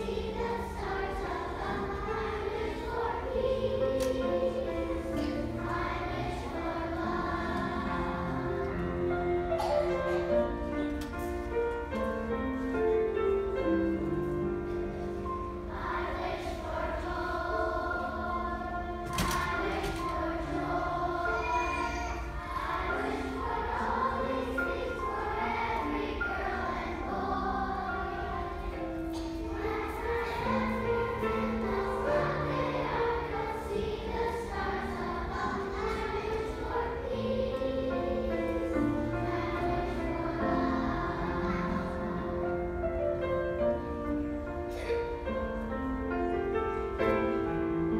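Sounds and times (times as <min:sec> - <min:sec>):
children's choir singing: 0:00.0 - 0:47.9.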